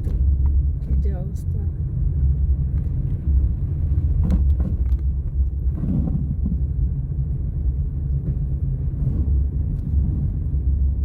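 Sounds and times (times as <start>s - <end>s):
car driving rumble from cabin: 0.0s - 11.0s.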